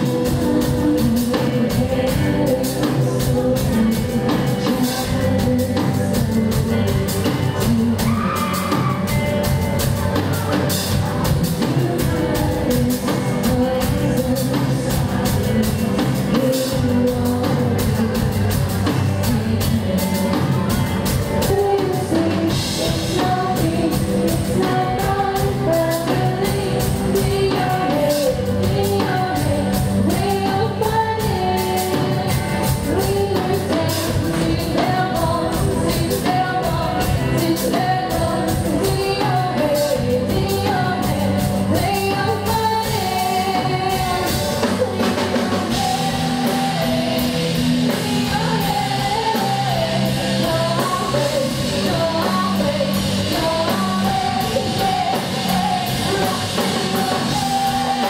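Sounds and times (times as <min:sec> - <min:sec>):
rock music with drums and guitar: 0:00.0 - 0:58.0
woman singing into a microphone: 0:00.0 - 0:58.0.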